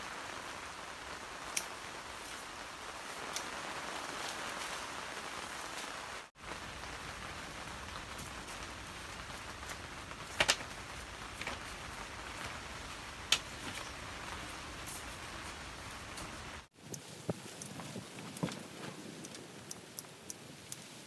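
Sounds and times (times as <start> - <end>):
rain pattering on plastic film: 0.0 - 21.0.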